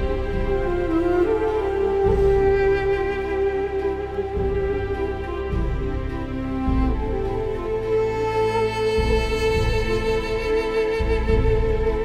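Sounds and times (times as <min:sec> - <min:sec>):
low pulsing music: 0:00.0 - 0:12.0
slow melody of held notes: 0:00.0 - 0:12.0.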